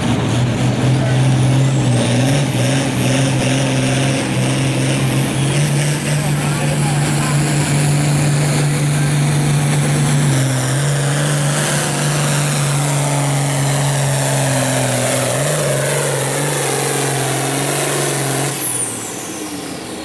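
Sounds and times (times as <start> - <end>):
tractor engine at full throttle: 0.0 - 20.0.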